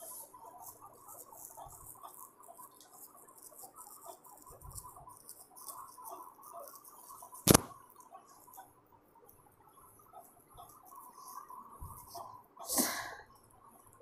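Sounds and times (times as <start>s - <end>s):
squeaky ticks and scratches: 0.0s - 12.7s.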